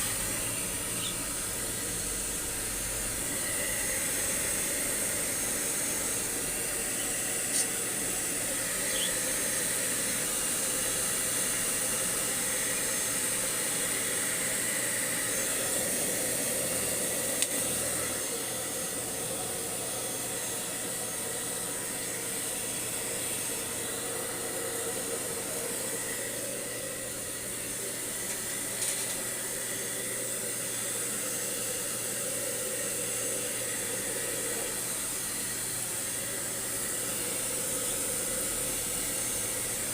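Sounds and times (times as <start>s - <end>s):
blow dryer running: 0.0s - 39.9s.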